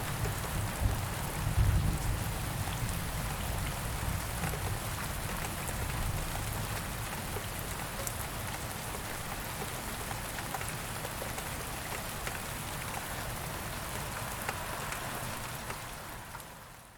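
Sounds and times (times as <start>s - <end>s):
rain drops pattering: 0.0s - 16.9s
steady rain hiss: 0.0s - 16.9s.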